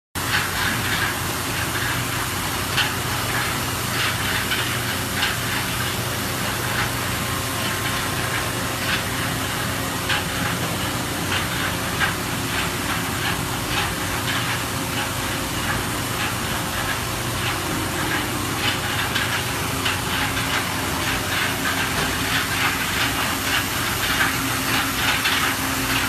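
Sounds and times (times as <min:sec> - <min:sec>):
machining center hiss and hum: 0:00.2 - 0:26.0.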